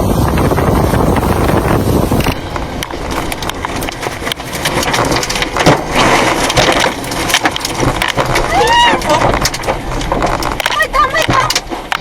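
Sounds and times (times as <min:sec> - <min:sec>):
heavy rain on hard surfaces: 0:00.0 - 0:12.0
storm wind on microphone: 0:00.0 - 0:12.0.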